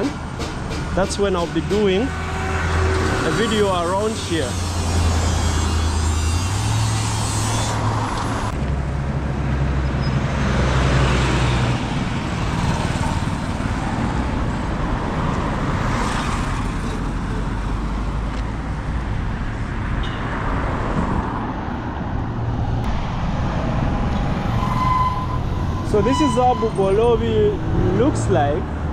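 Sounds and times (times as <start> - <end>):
road traffic passing: 0.0 - 28.9.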